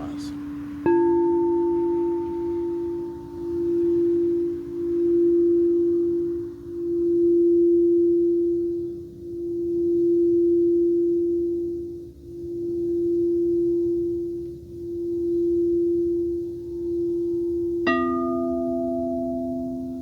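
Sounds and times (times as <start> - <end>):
singing bowl tone: 0.0 - 20.0.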